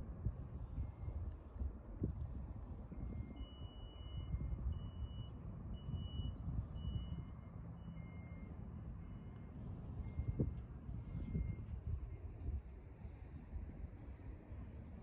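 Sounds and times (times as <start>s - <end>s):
vehicle reversing alarms beeping: 0.5s - 1.6s, 2.3s - 15.0s.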